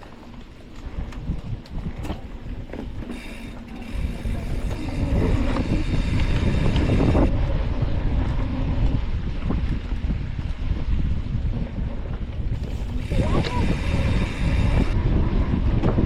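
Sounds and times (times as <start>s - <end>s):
tyres rumbling over trail: 0.0s - 16.0s
wind buffeting microphone: 0.0s - 16.0s.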